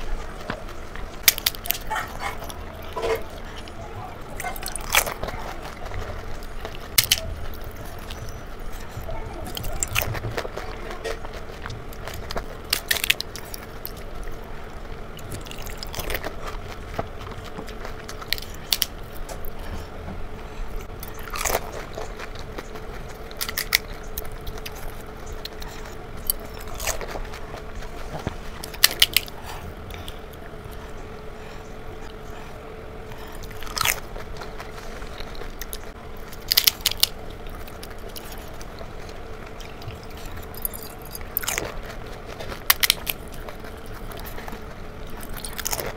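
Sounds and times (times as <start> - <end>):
crisp shells crunching: 0.0 - 14.5, 15.1 - 19.7, 20.8 - 30.9, 33.2 - 45.9
wet chewing: 0.0 - 45.9.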